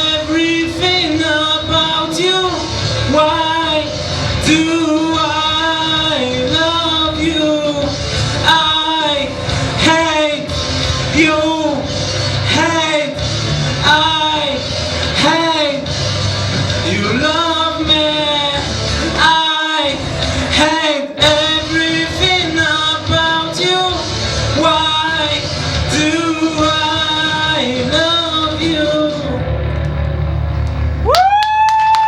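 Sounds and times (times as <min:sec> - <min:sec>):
male singer: 0:00.0 - 0:29.7
rock band playing: 0:00.0 - 0:31.7.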